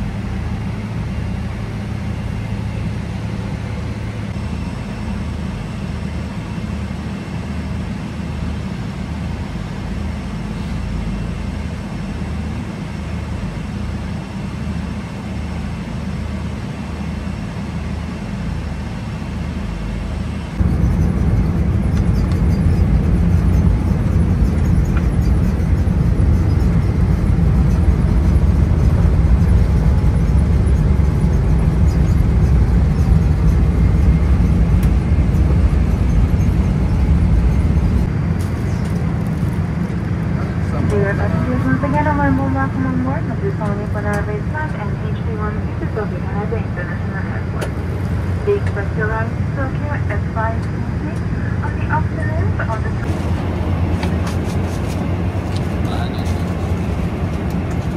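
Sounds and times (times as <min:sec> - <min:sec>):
airplane cabin engine drone: 0:00.0 - 0:57.9.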